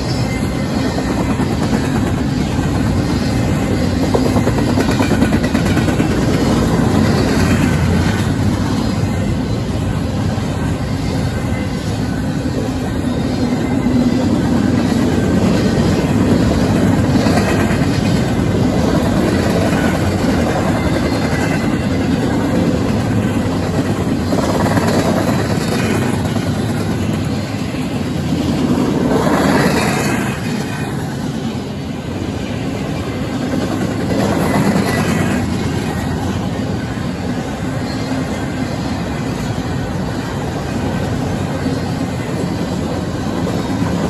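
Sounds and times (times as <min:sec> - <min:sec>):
train wheels clattering on rail: 0:00.0 - 0:44.0.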